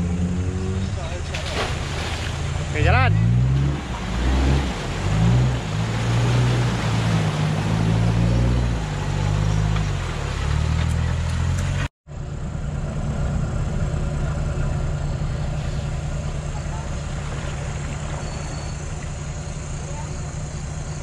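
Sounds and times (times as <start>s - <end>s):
engine running steadily: 0.0s - 21.0s
off-road vehicle engine revving: 0.0s - 21.0s
water splashing from wheels: 0.9s - 11.9s, 12.8s - 21.0s.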